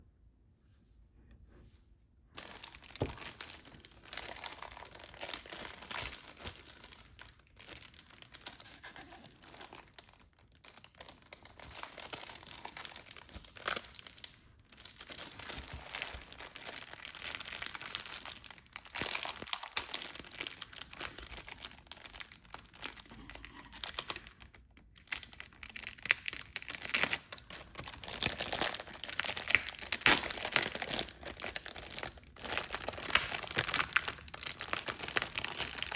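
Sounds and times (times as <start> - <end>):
packaging crinkling and tearing: 2.4 - 35.9.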